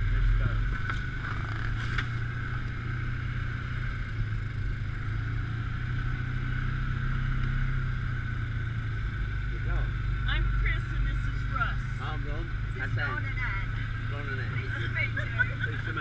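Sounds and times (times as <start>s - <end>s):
engine droning: 0.0s - 16.0s
high engine whine: 0.0s - 16.0s.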